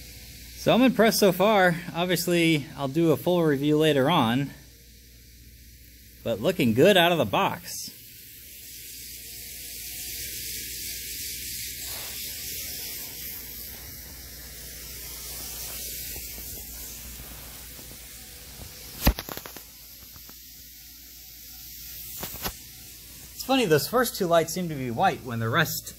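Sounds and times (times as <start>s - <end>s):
model train whirring: 0.0s - 25.9s.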